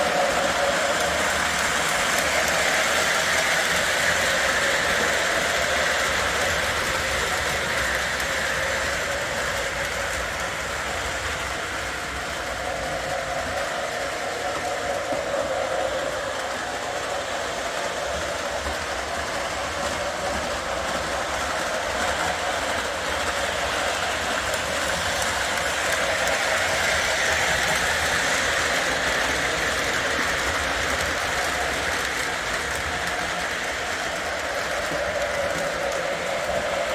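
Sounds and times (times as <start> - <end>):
model train motors whirring: 0.0 - 36.9.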